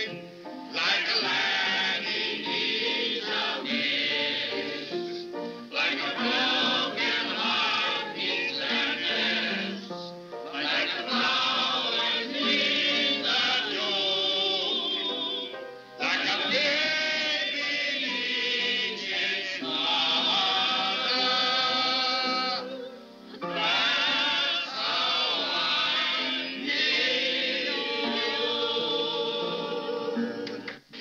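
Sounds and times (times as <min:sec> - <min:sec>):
group of people singing in chorus: 0:00.0 - 0:31.0.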